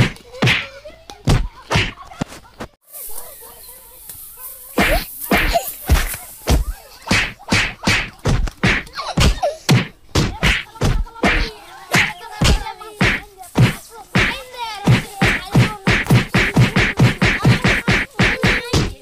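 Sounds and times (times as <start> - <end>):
punch whacks and thuds: 0.0 - 0.7, 1.3 - 2.0, 4.8 - 19.0.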